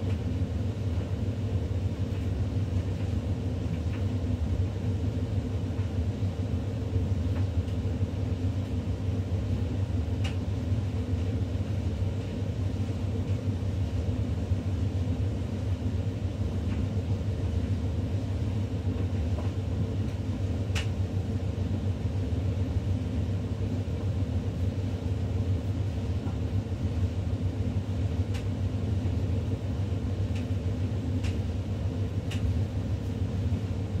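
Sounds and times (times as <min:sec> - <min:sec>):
tumble dryer humming and rumbling: 0:00.0 - 0:34.0.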